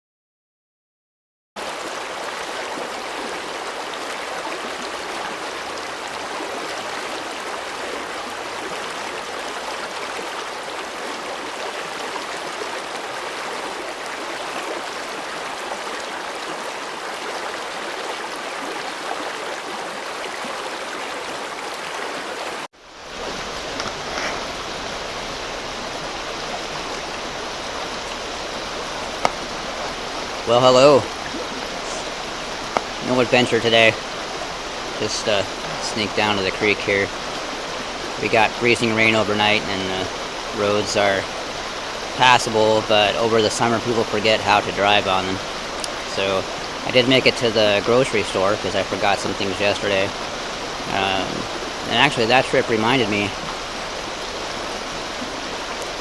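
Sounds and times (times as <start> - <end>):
creek water running: 1.6 - 56.0.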